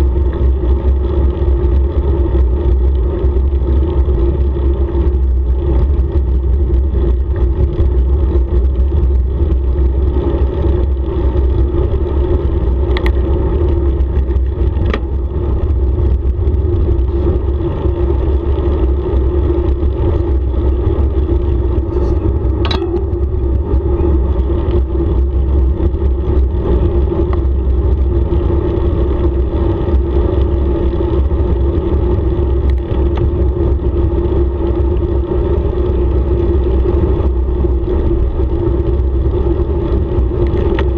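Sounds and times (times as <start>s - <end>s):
tyres rolling on asphalt: 0.0s - 40.9s
wind buffeting microphone: 0.0s - 40.9s.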